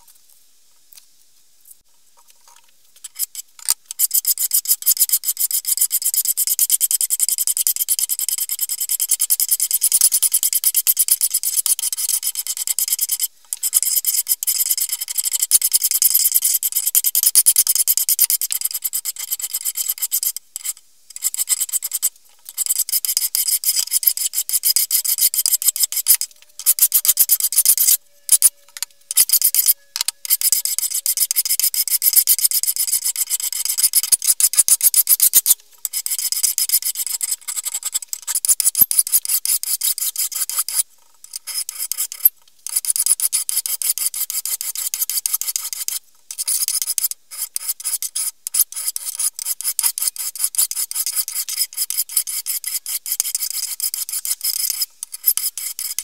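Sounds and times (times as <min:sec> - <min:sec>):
hand file rasping on steel: 0:03.2 - 0:56.0.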